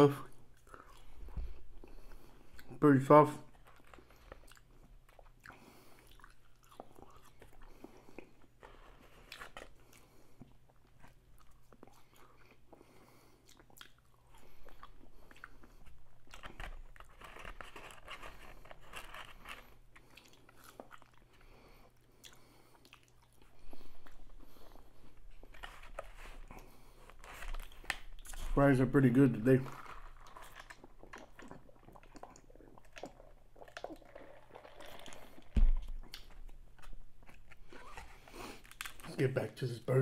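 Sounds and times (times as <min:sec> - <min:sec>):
chewing crunchy fries: 0:00.1 - 0:39.1.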